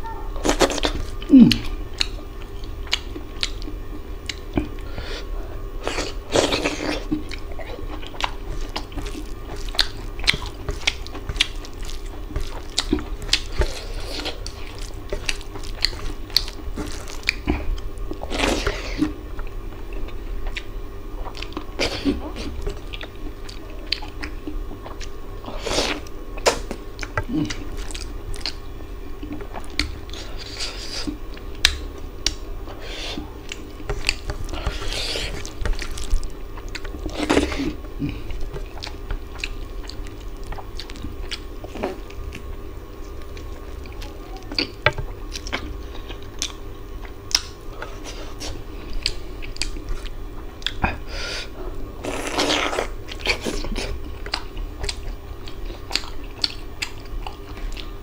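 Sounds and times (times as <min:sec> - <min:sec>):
faint steady hum: 0:00.0 - 0:58.0
chewing food: 0:00.4 - 0:58.0.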